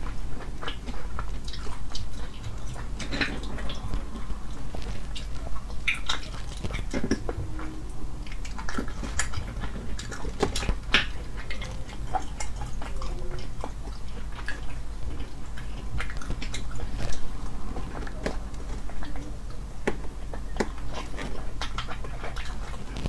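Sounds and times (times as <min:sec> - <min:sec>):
wet eating and sucking: 0:00.0 - 0:23.0.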